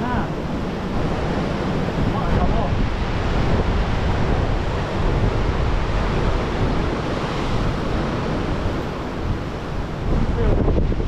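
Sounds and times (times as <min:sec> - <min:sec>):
sea washing against rocks: 0:00.0 - 0:11.0
wind buffeting microphone: 0:00.0 - 0:11.0.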